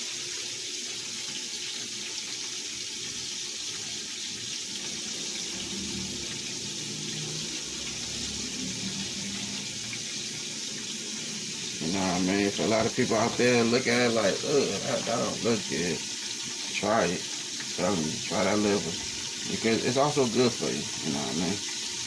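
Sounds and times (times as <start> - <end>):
liver sizzling in a pan: 0.0 - 22.0.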